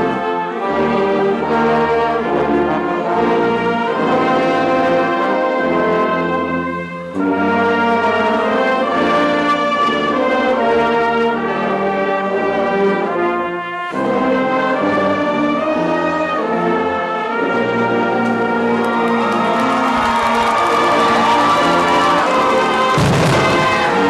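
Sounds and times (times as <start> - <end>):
brass band playing held chords: 0.0 - 24.0.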